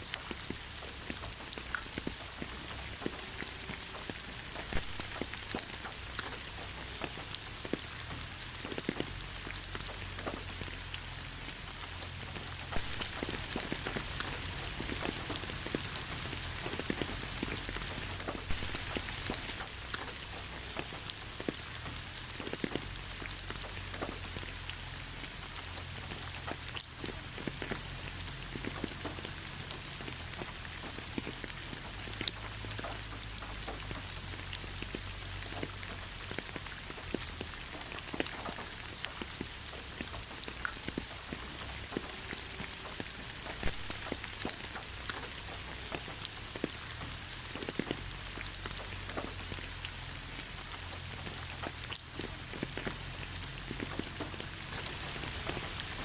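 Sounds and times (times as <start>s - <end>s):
rain hiss: 0.0s - 56.0s
raindrops ticking on a surface: 0.0s - 56.0s.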